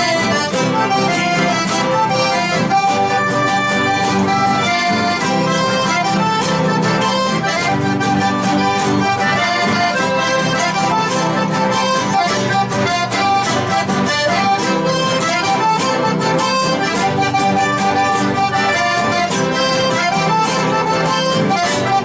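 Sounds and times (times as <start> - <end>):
accordion melody: 0.0 - 22.0
strummed guitar: 0.0 - 22.0.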